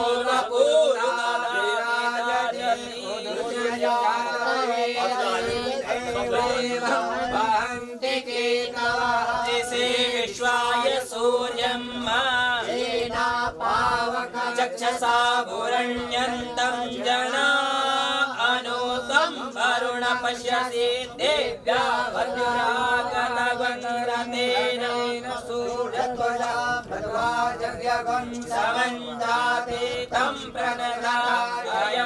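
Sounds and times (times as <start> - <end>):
chanted recitation: 0.0 - 32.0.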